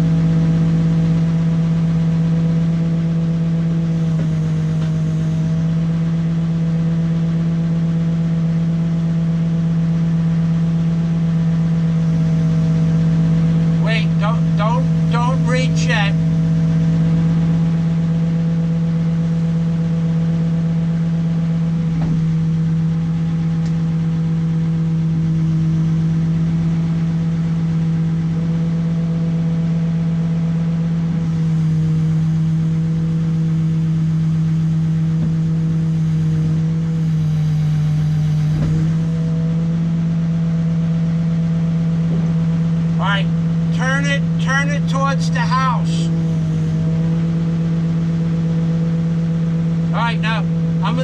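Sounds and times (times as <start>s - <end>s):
heavy machine engine running: 0.0s - 51.0s.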